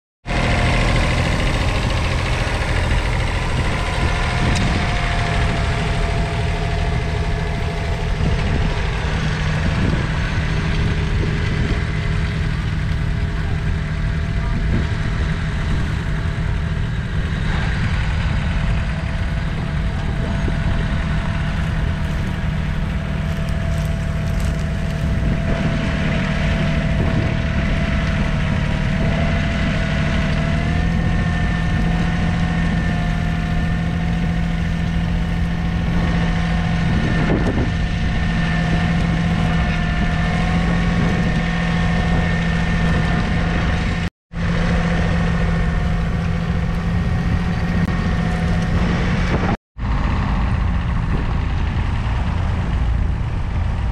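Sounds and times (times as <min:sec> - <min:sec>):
tractor diesel engine under load: 0:00.2 - 0:53.9.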